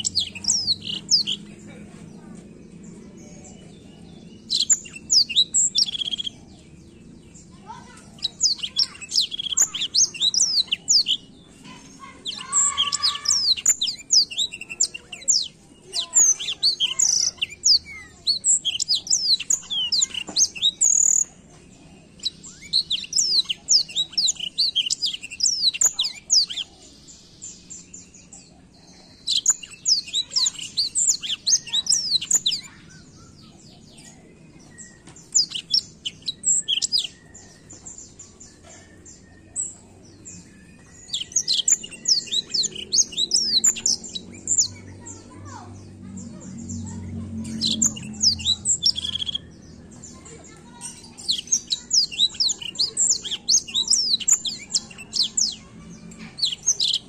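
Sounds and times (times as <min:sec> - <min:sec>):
canary singing chirps and trills: 0:00.0 - 0:57.0.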